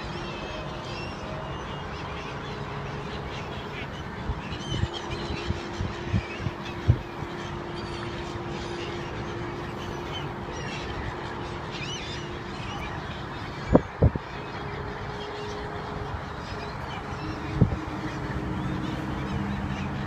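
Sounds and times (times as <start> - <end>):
gulls calling: 0.0 - 20.0.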